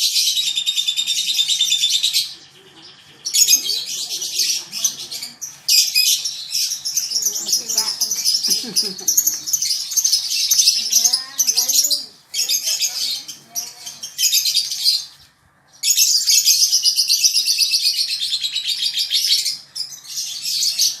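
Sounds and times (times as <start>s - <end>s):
lovebird chicks chattering: 0.0s - 21.0s.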